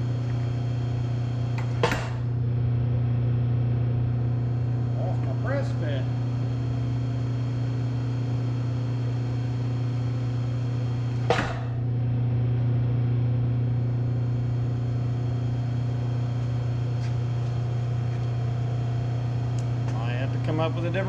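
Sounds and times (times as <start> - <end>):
milling machine motor hum: 0.0 - 21.0.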